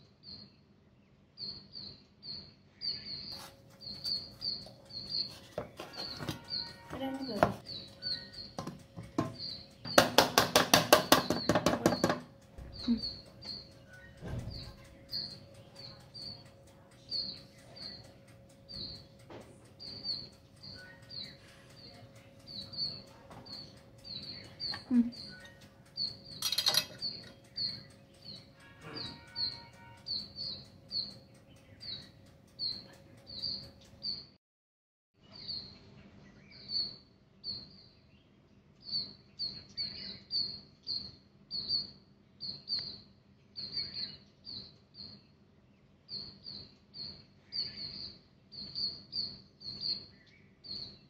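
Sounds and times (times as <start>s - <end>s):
small bird chirping: 0.0s - 34.4s, 35.2s - 51.0s.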